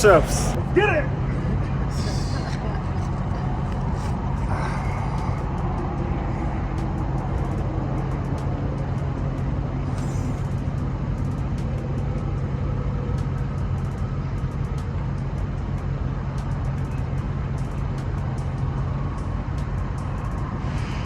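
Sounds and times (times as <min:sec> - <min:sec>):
engine idling: 0:00.0 - 0:20.3.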